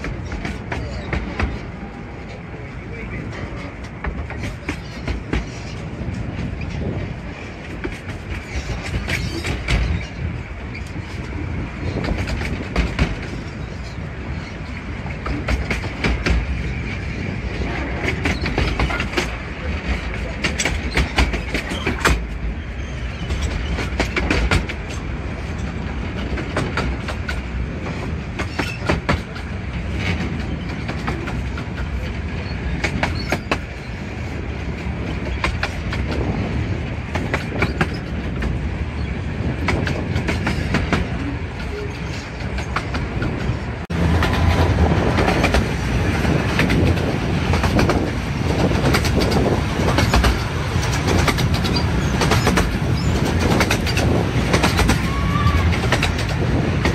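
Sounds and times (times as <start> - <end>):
railway carriage rumbling: 0.0 - 56.9
wheels clicking over rail joints: 0.0 - 56.9.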